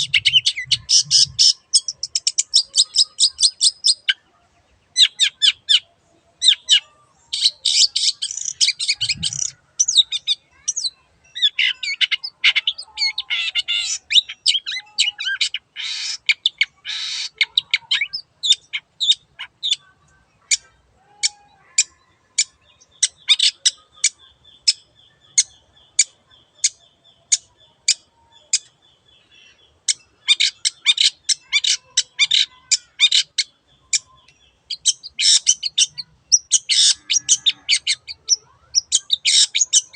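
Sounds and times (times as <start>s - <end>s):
bird harsh chattering song: 0.0s - 4.3s, 4.9s - 39.9s.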